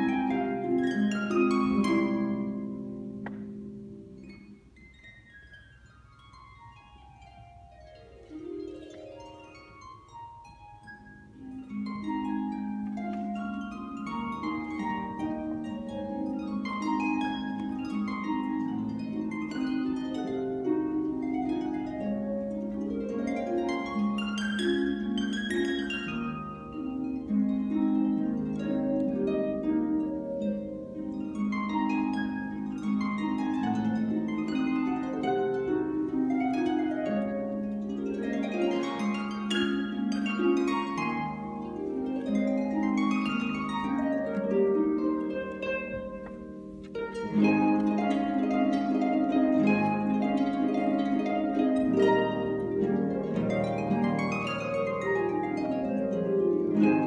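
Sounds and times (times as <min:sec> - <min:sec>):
harp arpeggios: 0:00.0 - 0:57.0.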